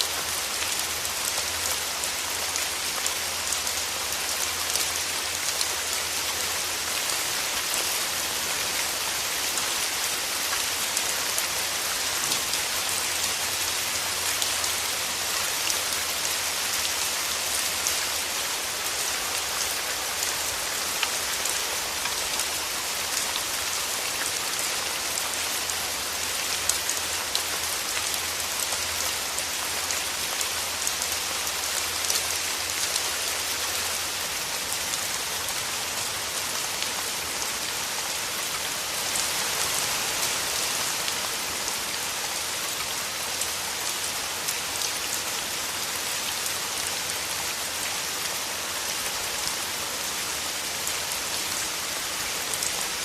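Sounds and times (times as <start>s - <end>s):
rain falling through trees: 0.0s - 53.0s.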